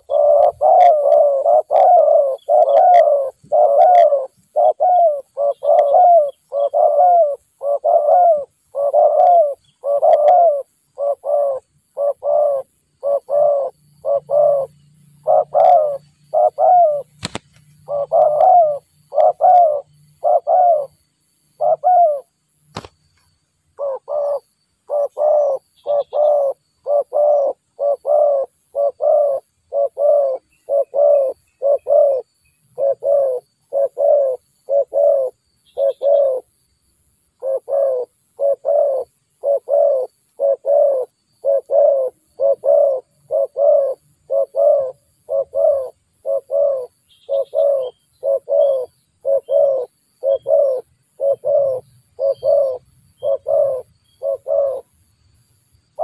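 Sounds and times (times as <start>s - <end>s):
dove cooing: 0.0s - 22.9s, 23.7s - 36.6s, 37.4s - 54.9s.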